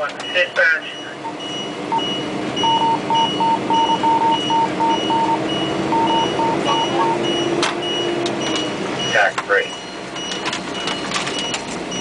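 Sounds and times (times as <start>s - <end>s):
high electronic beep: 0.2s - 12.0s
lower electronic beeps: 0.2s - 12.0s.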